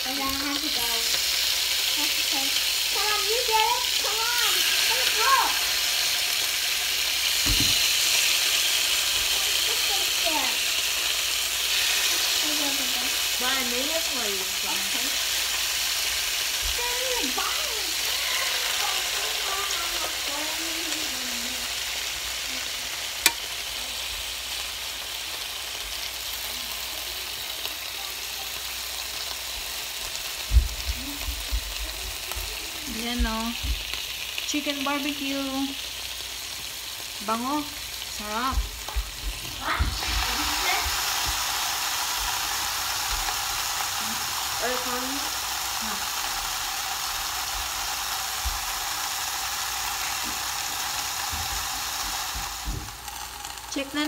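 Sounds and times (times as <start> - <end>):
meat sizzling on a grill: 0.0 - 54.0.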